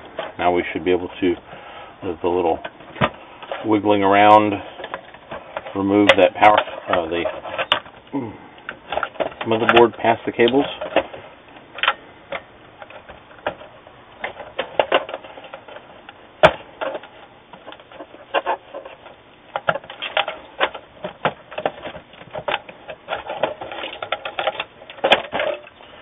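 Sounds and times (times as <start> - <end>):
clicks and rattles in metal case: 2.5 - 25.9.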